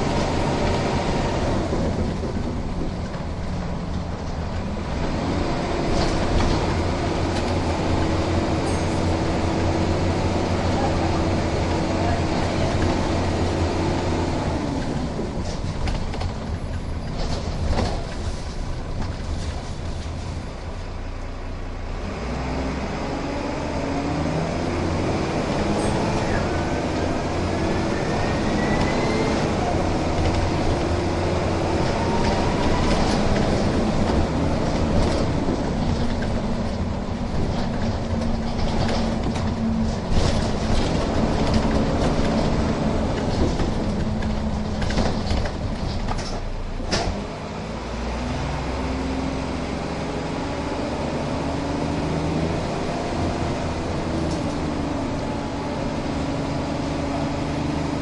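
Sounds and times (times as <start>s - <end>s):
bus diesel engine pulling away: 0.0s - 58.0s.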